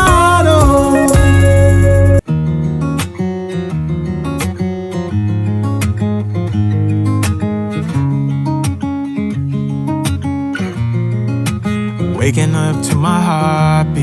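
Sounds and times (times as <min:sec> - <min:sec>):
strummed acoustic guitar with bass: 0:00.0 - 0:14.0.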